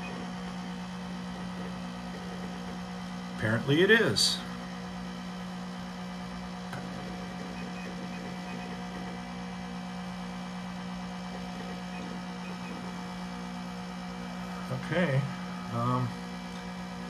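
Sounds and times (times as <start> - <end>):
computer fan and drive hum: 0.0 - 17.0.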